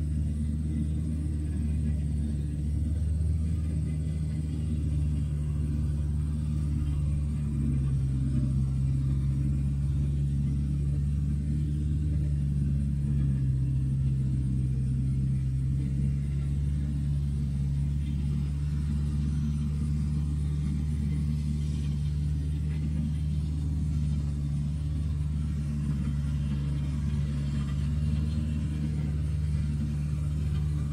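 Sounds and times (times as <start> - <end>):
diesel engine droning: 0.0 - 30.9.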